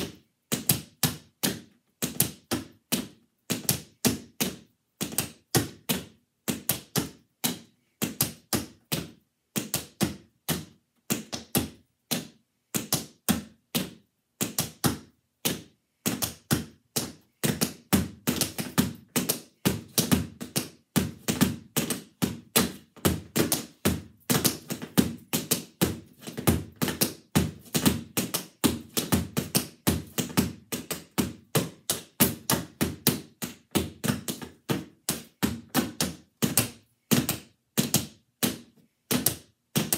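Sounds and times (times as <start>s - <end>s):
tap shoes tapping: 0.0s - 39.9s.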